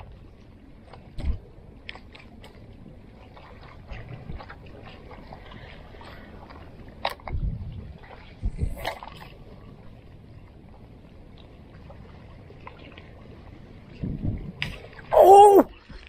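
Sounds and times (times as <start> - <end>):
quiet water noise: 0.0 - 16.0.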